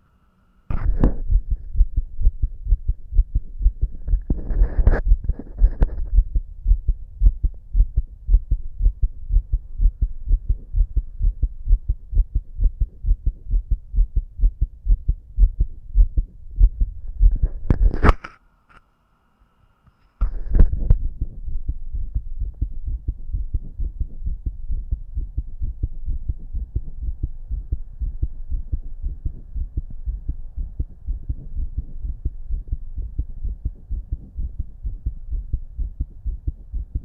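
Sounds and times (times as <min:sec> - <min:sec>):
heartbeat through stethoscope: 0:00.7 - 0:18.1, 0:20.2 - 0:37.0.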